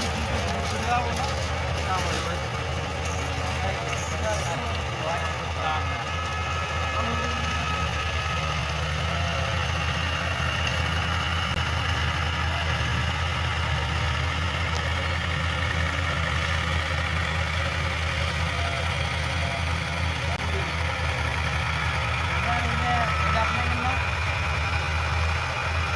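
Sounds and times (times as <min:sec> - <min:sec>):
tractor diesel engine idling: 0:00.0 - 0:25.9.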